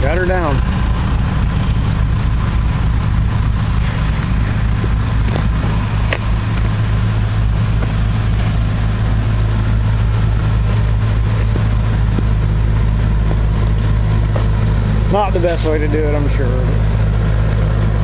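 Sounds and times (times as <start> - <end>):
heavy equipment engine idling: 0.0 - 18.0.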